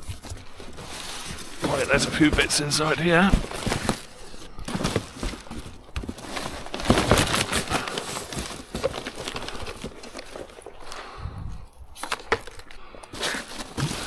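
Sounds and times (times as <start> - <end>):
cardboard and packaging rustling: 0.0 - 14.0.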